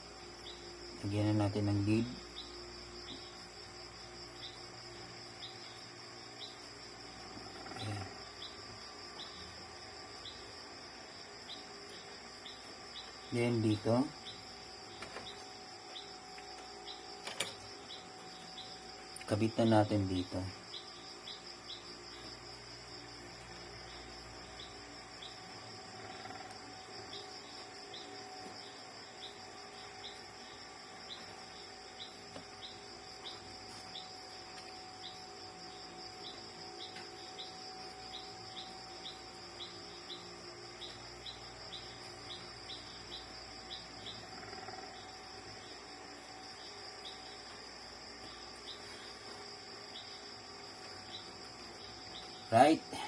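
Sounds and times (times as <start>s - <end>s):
faint steady hum: 0.0s - 53.0s
insects chirping: 0.0s - 53.0s.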